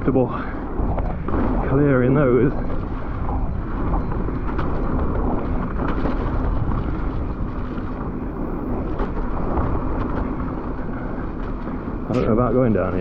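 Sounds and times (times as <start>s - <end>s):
bike tyre rumble on muddy trail: 0.0s - 13.0s
wind buffeting microphone: 0.0s - 13.0s.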